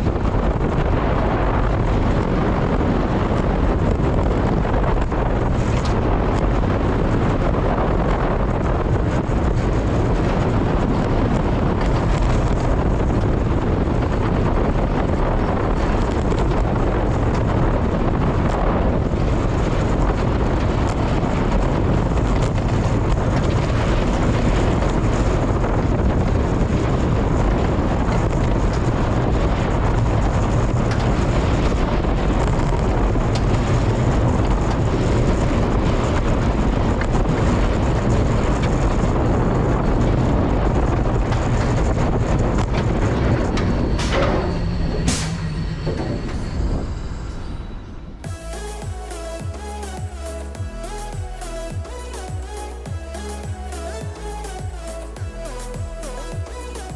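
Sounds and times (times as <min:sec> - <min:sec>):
roller coaster train rumbling: 0:00.0 - 0:48.3
wind buffeting microphone: 0:00.0 - 0:48.5.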